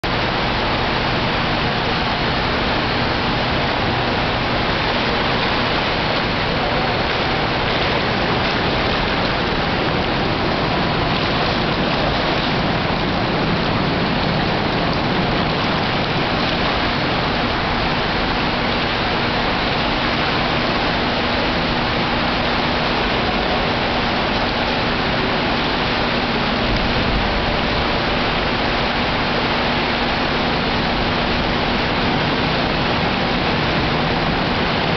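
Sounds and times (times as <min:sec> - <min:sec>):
faint steady hum: 0:00.0 - 0:34.9
rushing water noise: 0:00.0 - 0:34.9.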